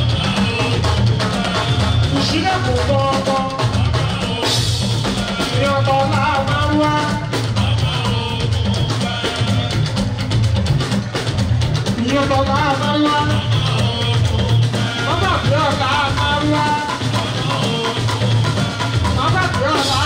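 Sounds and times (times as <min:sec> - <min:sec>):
person singing: 0:00.0 - 0:10.0, 0:12.0 - 0:20.0
bass line: 0:00.0 - 0:20.0
drums and percussion: 0:00.0 - 0:20.0
live band music: 0:00.0 - 0:20.0.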